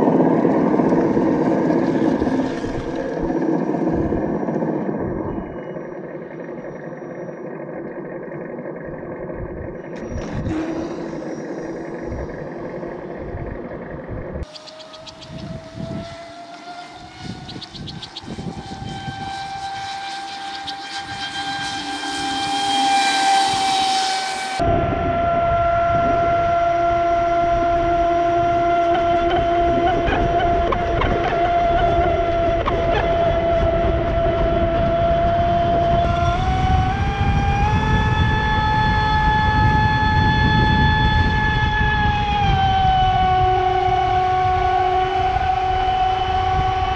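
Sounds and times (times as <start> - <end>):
electric motor whine: 0.0 - 46.9
hull rushing on water: 0.0 - 46.9.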